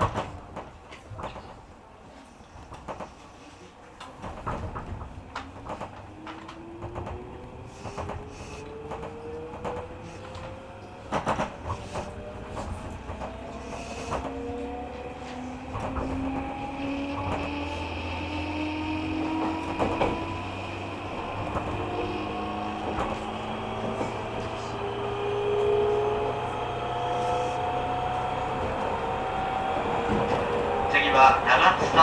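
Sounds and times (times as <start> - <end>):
wheels rumbling on rails: 0.0 - 32.0
electric train motors whining: 5.8 - 32.0.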